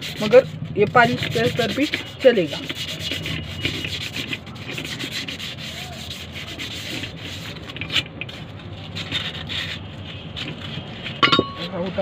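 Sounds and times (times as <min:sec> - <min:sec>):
sandpaper rasping on metal: 0:00.0 - 0:12.0
sharp scrape: 0:00.0 - 0:12.0.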